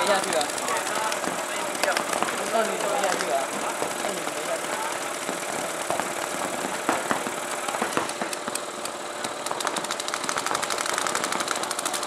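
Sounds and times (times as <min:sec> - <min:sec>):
airsoft guns firing: 0:00.0 - 0:12.0
engine-like drone: 0:00.0 - 0:12.0.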